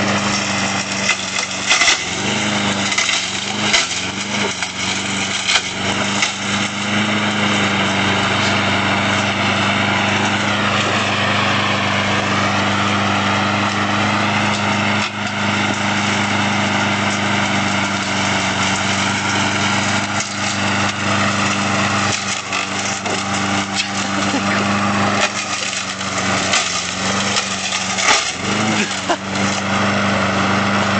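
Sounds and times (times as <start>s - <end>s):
lawnmower engine running: 0.0s - 30.9s.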